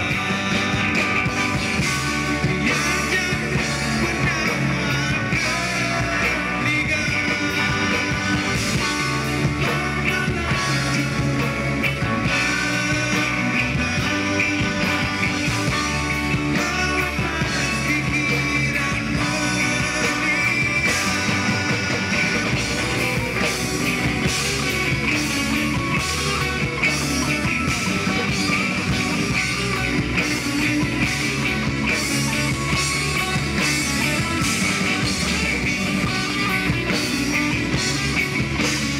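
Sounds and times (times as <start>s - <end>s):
person singing into microphone: 0.0s - 38.0s
bass: 0.0s - 38.9s
drums: 0.0s - 38.9s
electric guitars: 0.0s - 38.9s
keyboard: 0.0s - 38.9s.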